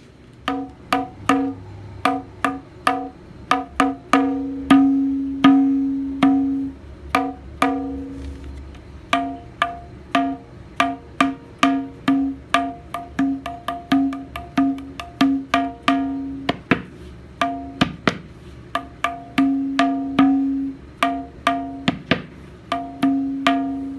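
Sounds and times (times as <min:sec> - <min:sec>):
tabla strokes: 0:00.4 - 0:23.9.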